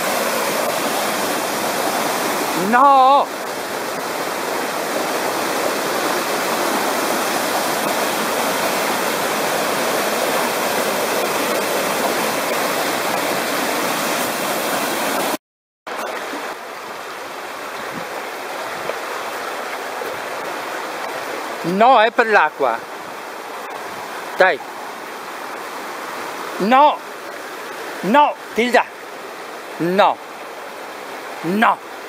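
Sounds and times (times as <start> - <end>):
stream water rushing over rocks: 0.0 - 32.0.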